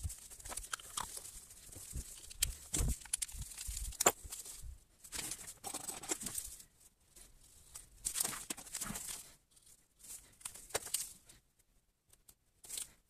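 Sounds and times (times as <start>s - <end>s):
gloved hands rustling and scraping: 0.0s - 13.0s.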